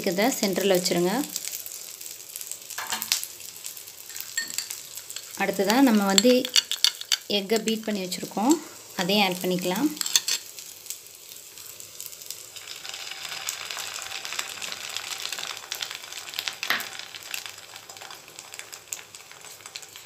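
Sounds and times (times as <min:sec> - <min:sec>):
egg sizzling in butter: 0:00.0 - 0:20.0.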